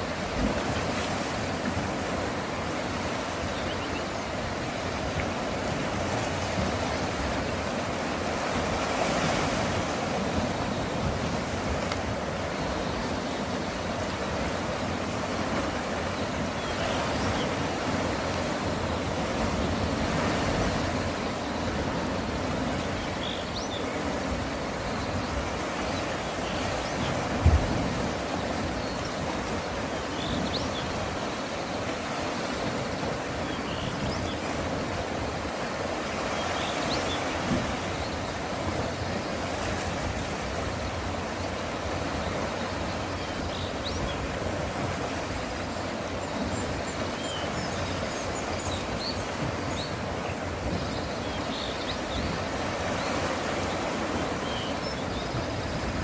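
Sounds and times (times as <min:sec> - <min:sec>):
sea waves washing on rocky shore: 0:00.0 - 0:56.0.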